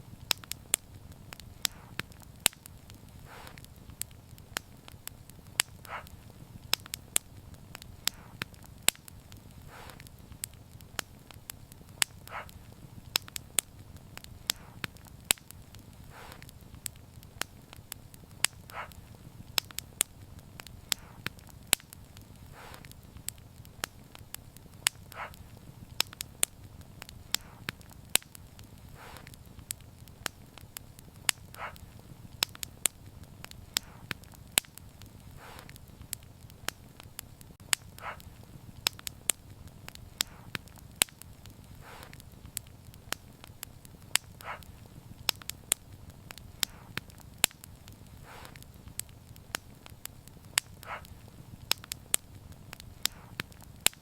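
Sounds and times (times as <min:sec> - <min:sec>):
low fire rumble: 0:00.0 - 0:54.0
soft fire hiss: 0:00.0 - 0:54.0
wood fire crackling and popping: 0:00.0 - 0:54.0.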